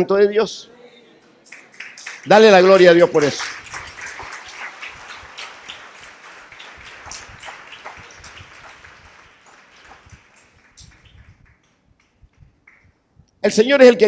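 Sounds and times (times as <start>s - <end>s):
people clapping: 0.7s - 13.0s.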